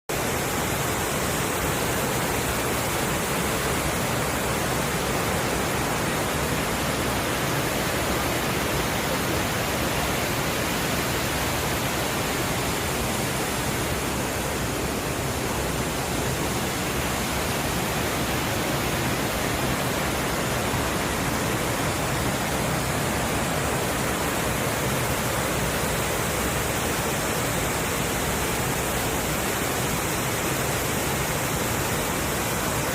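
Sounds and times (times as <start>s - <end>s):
stream rushing over rocks: 0.1s - 32.9s.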